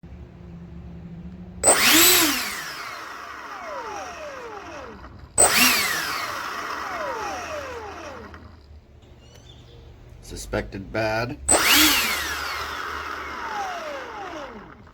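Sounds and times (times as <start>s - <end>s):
electric ducted-fan motor whining: 0.4s - 10.4s, 11.4s - 14.9s.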